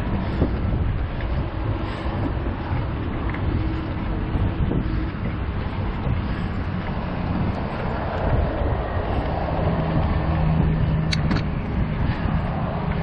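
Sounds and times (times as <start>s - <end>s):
low engine hum: 0.0s - 13.0s
motorway traffic rushing: 0.0s - 13.0s.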